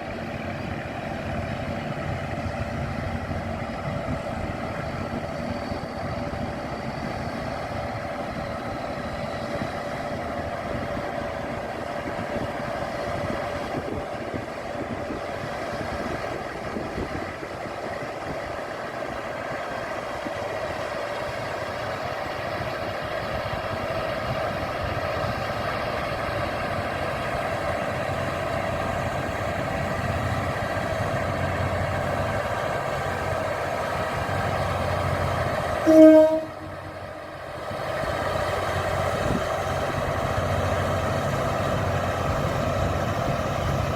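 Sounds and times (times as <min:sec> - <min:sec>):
diesel railcar engine running: 0:00.0 - 0:43.9.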